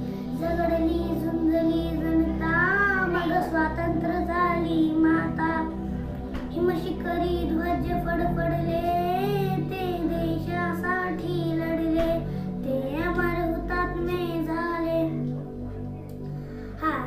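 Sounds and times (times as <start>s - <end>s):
instrumental backing music: 0.0s - 17.0s
child singing: 0.4s - 5.8s, 6.5s - 15.2s, 16.8s - 17.0s.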